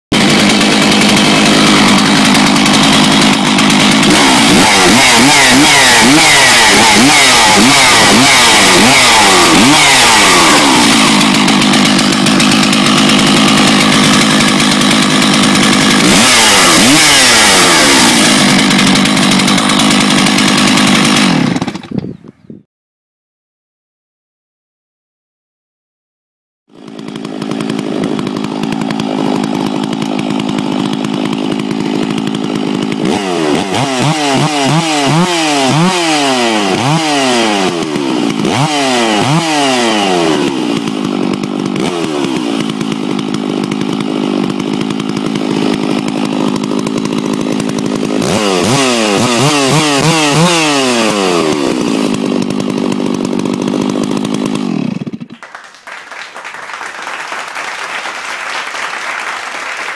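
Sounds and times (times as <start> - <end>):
chainsaw idling and revving: 0.1 - 22.0, 26.7 - 59.9.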